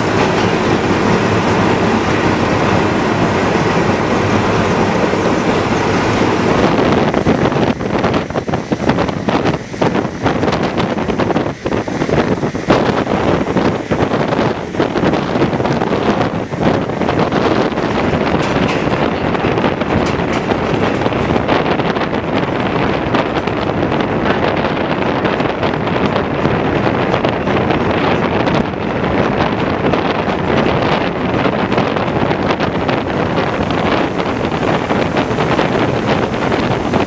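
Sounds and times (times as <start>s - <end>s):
water churned and sprayed by train: 0.0s - 37.0s
wind buffeting microphone: 0.0s - 37.0s.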